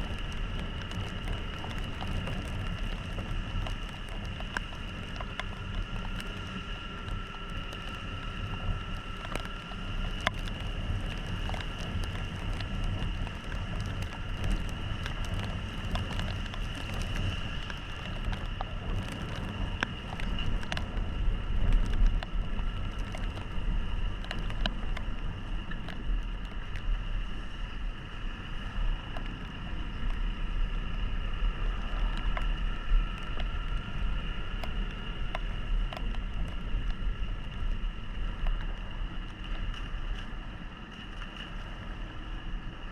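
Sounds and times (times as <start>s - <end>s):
motorcycle engine drone: 0.0s - 42.9s.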